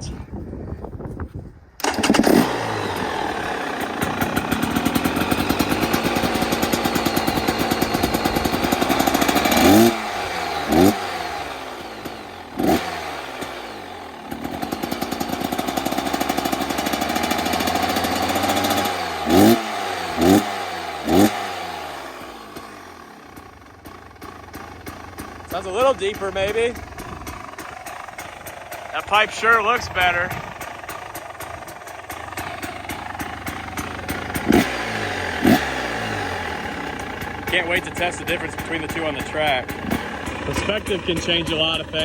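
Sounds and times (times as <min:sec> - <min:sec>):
dirt bike engine idling: 0:00.0 - 0:42.0
engine throttle blips: 0:01.7 - 0:42.0.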